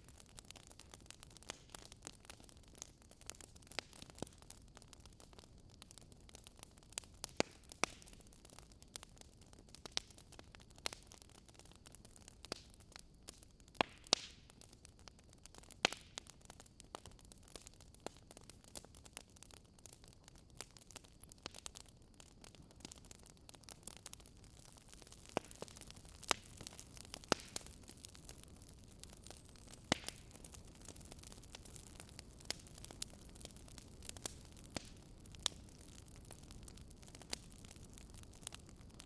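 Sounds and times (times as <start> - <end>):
campfire crackling and popping: 0.0 - 39.0
faint steady hiss: 0.0 - 39.0.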